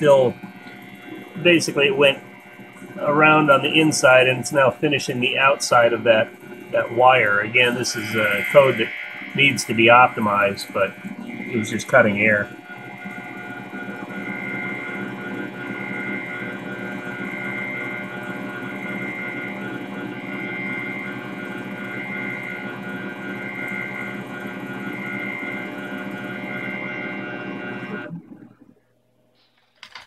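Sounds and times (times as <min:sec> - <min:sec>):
lathe humming with high whine: 0:00.0 - 0:28.8.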